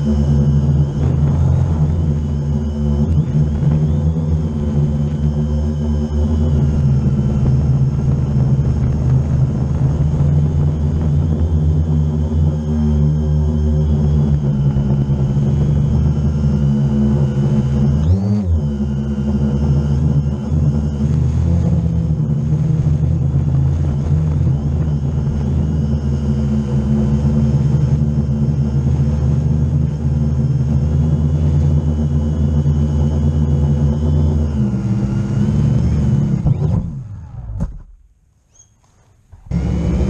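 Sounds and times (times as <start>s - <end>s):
drone propellers whirring: 0.0s - 38.0s, 39.3s - 40.0s.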